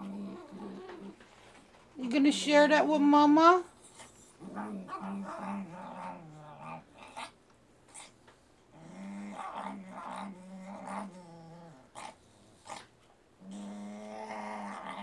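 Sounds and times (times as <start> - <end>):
small dog growling: 0.0 - 1.3, 3.8 - 15.0.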